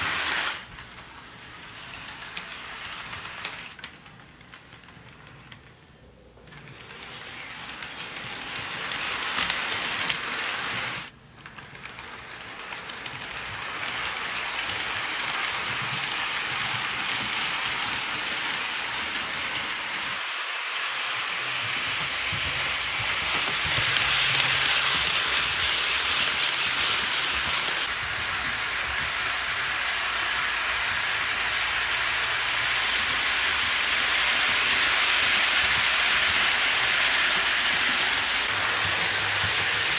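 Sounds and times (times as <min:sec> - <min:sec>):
model train wheels rumbling on rails: 0:00.0 - 0:39.9.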